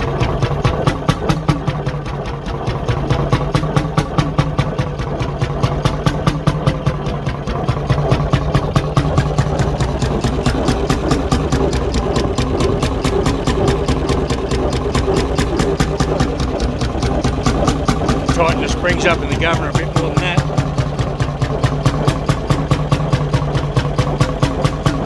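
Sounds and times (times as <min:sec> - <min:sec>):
two-stroke engine running: 0:00.0 - 0:25.0.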